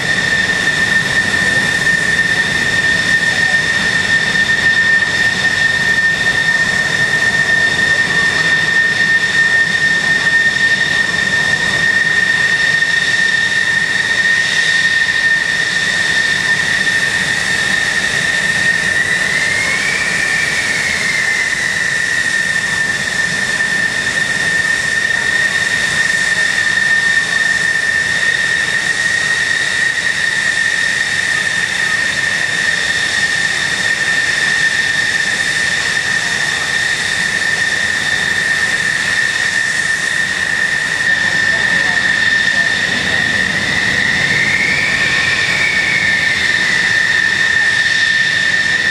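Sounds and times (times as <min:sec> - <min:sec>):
jet engine idling: 0:00.0 - 0:48.9.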